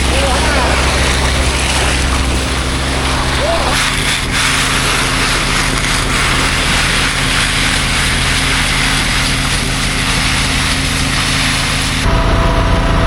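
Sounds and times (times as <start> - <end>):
broad rushing noise: 0.0 - 12.3
truck engine drone: 0.0 - 13.0.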